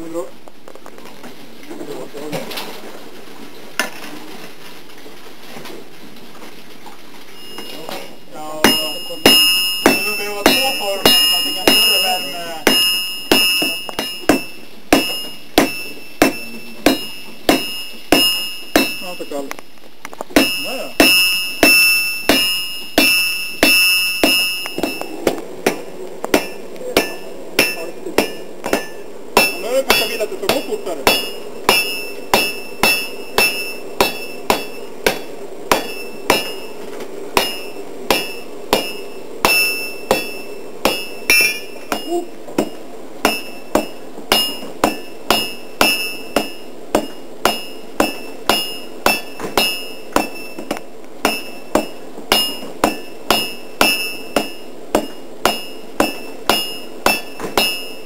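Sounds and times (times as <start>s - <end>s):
hammer striking iron on anvil: 7.4s - 19.5s, 20.3s - 36.8s, 37.4s - 58.0s.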